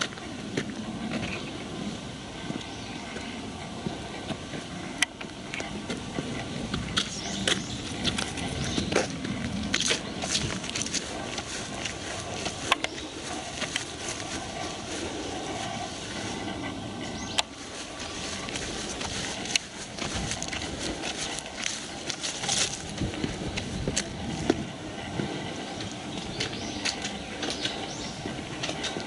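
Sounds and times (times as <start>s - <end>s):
footsteps crunching on path: 0.0s - 29.0s
steady background hiss: 0.0s - 29.0s.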